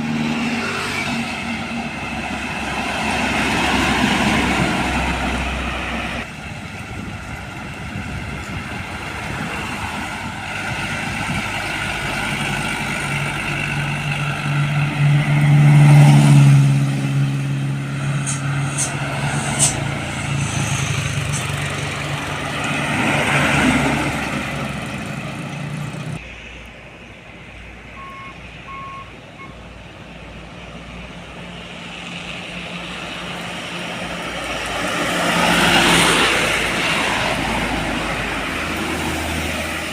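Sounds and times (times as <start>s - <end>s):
heavy trucks passing: 0.0s - 39.9s
quieter traffic: 0.0s - 39.9s.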